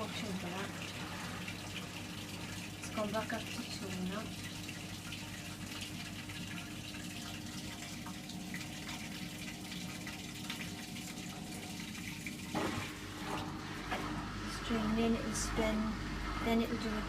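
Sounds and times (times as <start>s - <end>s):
water running out: 0.0s - 14.2s
drain pump hum: 0.0s - 17.0s.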